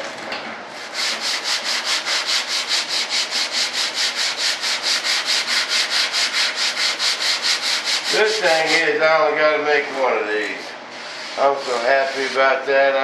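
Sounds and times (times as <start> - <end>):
sandpaper rubbing back and forth: 0.7 - 9.2, 9.8 - 12.9.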